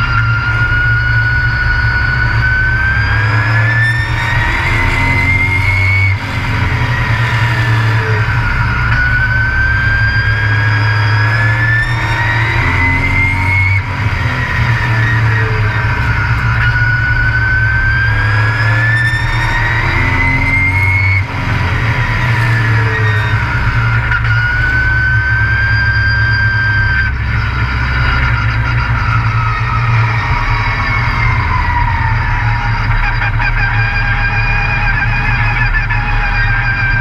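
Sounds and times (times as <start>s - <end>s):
race truck engine running hard: 0.0s - 37.0s.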